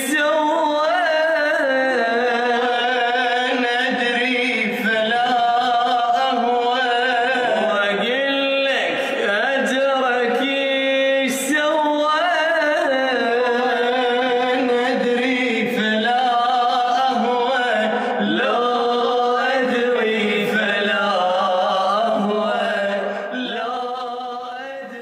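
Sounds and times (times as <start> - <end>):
man singing: 0.0 - 25.0.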